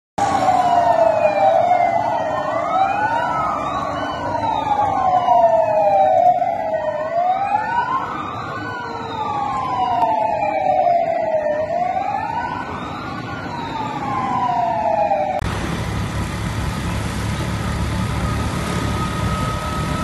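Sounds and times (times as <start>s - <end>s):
police sirens wailing: 0.2s - 20.0s.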